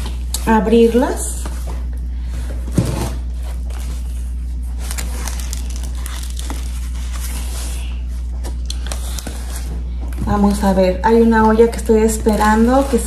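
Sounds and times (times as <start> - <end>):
plastic and paper wrapping crinkling: 0.0 - 13.0
steady low hum: 0.0 - 13.0.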